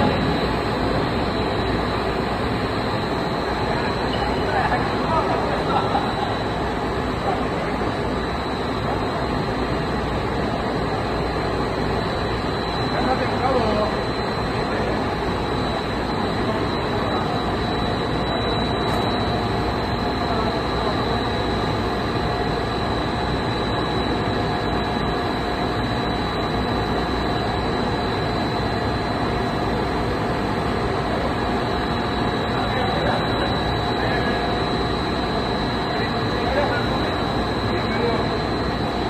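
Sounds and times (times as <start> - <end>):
high whine: 0.0 - 39.0
machinery rumble and rush: 0.0 - 39.0.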